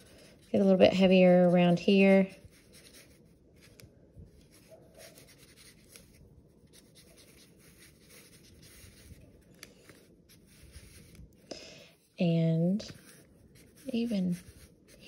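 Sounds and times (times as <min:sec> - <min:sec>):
felt-tip marker strokes on paper: 0:00.0 - 0:11.4, 0:12.8 - 0:15.0.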